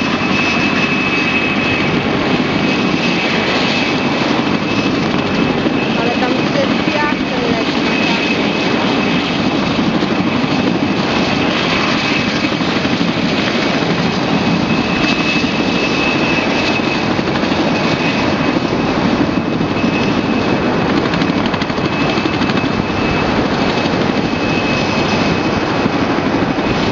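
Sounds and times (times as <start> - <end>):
helicopter rotor and turbine noise: 0.0 - 26.9
high turbine whine: 0.0 - 26.9.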